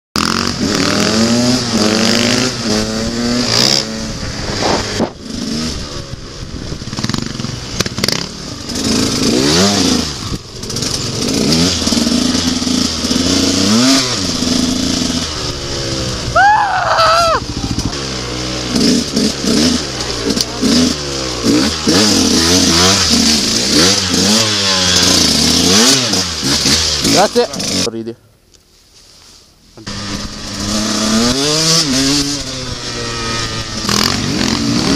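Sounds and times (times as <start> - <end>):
dirt bike engines revving: 0.2 - 28.2, 29.8 - 34.9.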